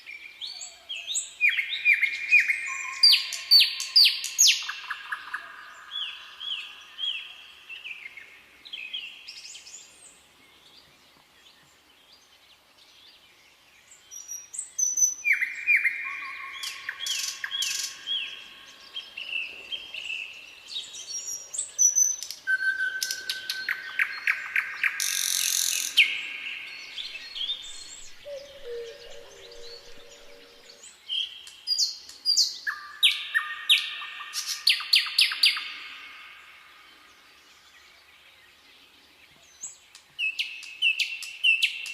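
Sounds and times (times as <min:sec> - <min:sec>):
songbirds chirping and trilling: 0:00.0 - 0:41.9.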